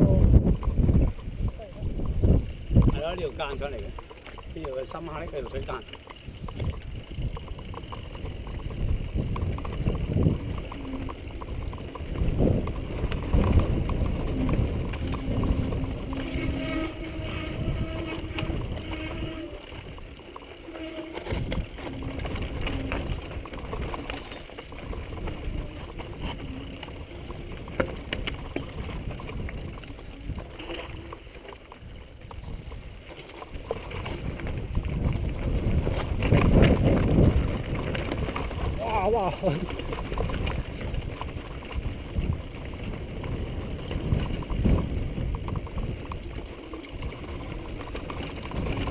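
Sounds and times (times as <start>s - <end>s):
bike rattling and clicking: 0.0s - 48.9s
tyres crunching over loose stones: 0.0s - 48.9s
wind rumble on microphone: 0.0s - 48.9s.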